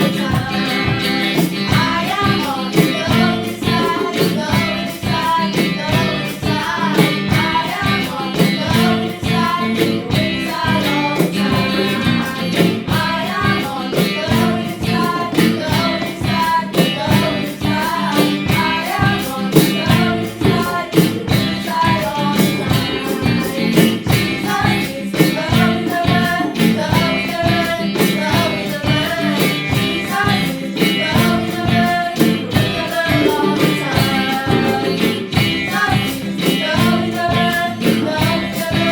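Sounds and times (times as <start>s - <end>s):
song with singing and beat: 0.0s - 38.9s.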